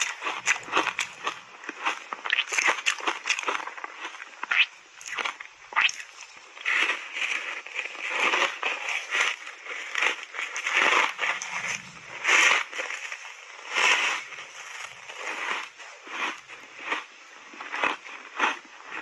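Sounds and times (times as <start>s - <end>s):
crunchy snack being chewed: 0.0s - 19.0s.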